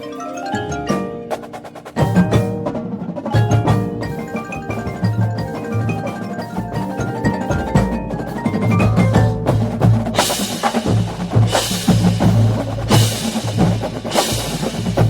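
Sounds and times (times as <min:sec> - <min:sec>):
marimba and glockenspiel runs: 0:00.0 - 0:15.0
drum hits: 0:00.6 - 0:15.0.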